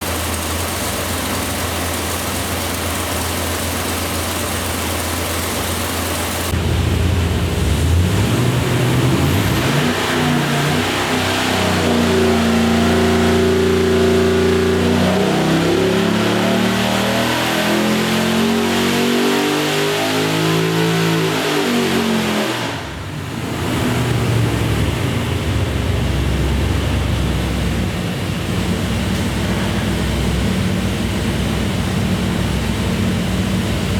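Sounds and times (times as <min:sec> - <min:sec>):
engine revving and idling: 0:00.0 - 0:33.9.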